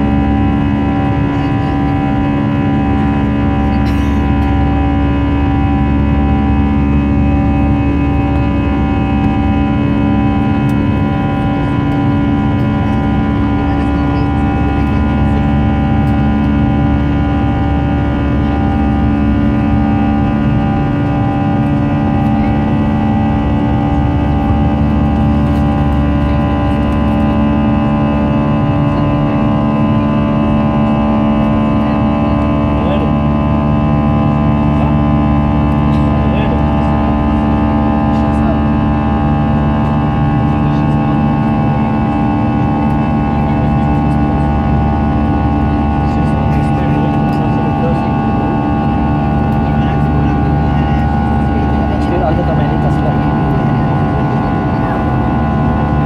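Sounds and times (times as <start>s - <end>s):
jet engines droning in cabin: 0.0s - 56.0s.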